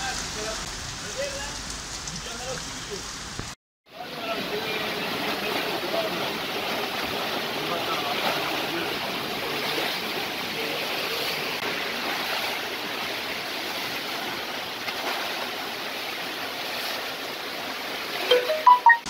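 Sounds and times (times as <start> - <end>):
rainwater rushing across pavement: 0.0 - 18.3.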